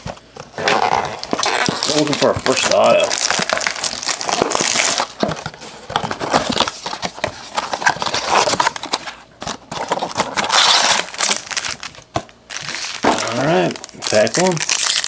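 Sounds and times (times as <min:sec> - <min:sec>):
plastic wrap and foil crinkling: 0:00.7 - 0:15.0.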